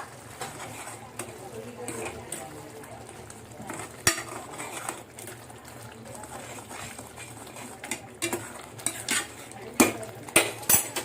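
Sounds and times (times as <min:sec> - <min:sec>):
spoon scraping pan: 0:00.0 - 0:02.7, 0:03.5 - 0:11.0
sauce bubbling and sizzling: 0:00.0 - 0:11.0.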